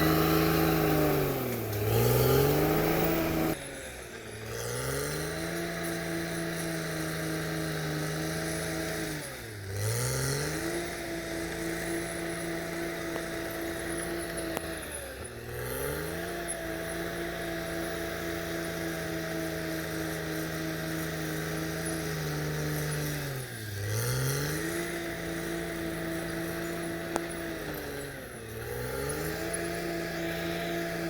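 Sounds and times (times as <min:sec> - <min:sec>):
bulldozer diesel engine revving: 0:00.0 - 0:31.0.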